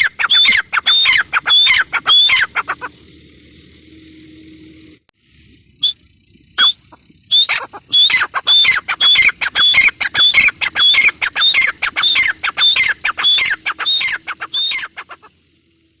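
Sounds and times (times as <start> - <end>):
francolin calling: 0.0 - 15.4.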